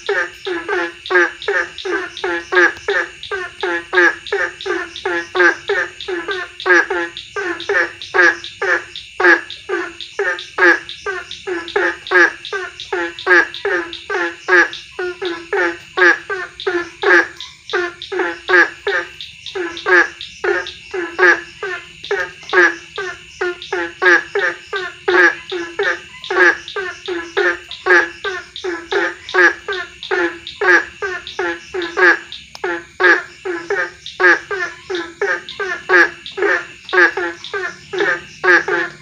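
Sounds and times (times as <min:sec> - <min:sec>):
frogs croaking: 0:00.0 - 0:39.0.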